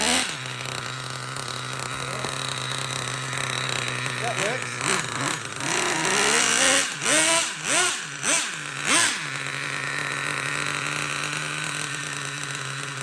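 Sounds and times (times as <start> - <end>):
small engine revving and idling: 0.0 - 13.0.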